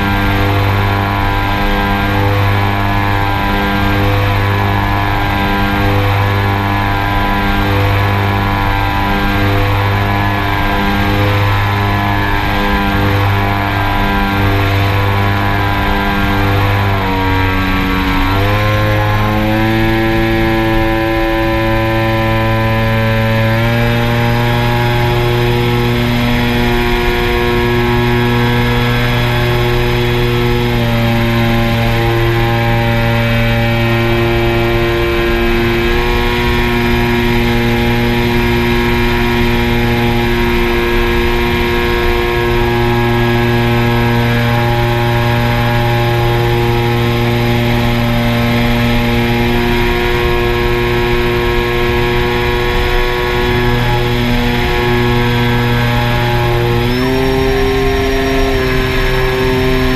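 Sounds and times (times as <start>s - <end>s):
motor humming with whine: 0.0s - 59.9s.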